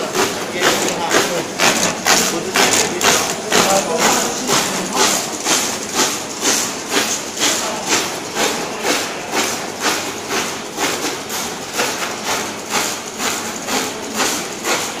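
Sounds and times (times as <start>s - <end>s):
label printer clacking and hissing: 0.0s - 15.0s.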